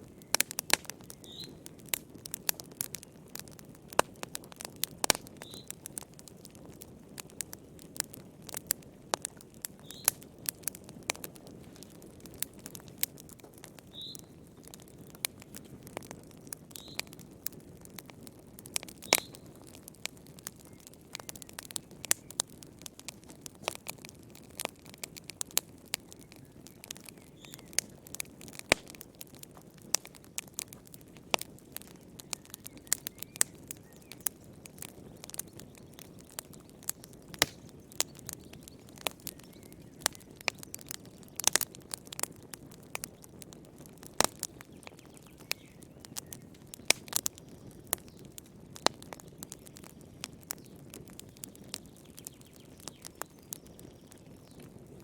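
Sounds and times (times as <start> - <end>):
fire popping and snapping: 0.0 - 55.0
wood fire crackling: 0.0 - 55.0.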